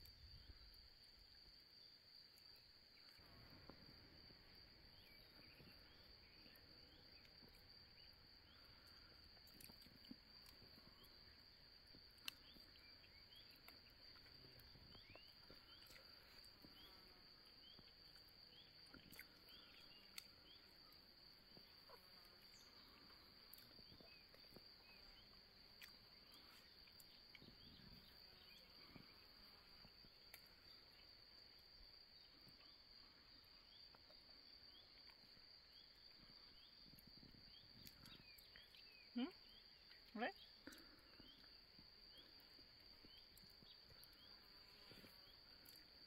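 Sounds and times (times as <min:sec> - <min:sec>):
faint bird chirps: 0:01.8 - 0:45.9.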